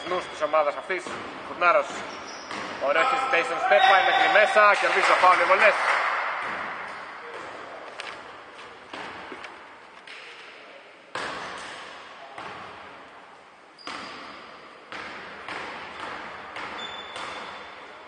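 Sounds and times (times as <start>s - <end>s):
basketball bouncing in echoing gym: 0.0s - 18.0s.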